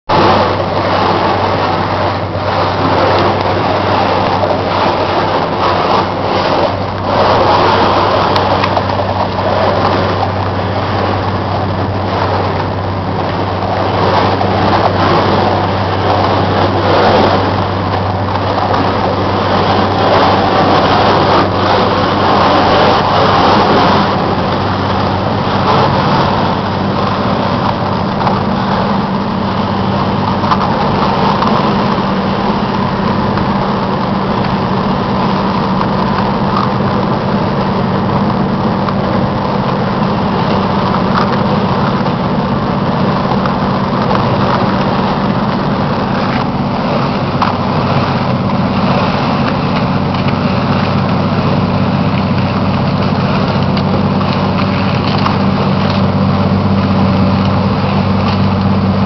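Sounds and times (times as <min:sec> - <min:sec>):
boat diesel engine humming: 0:00.0 - 0:59.0
loud rough rushing noise: 0:00.0 - 0:59.0.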